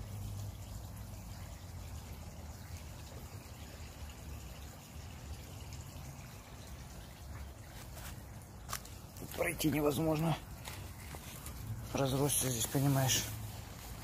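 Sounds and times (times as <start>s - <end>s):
water trickling: 0.0s - 14.0s.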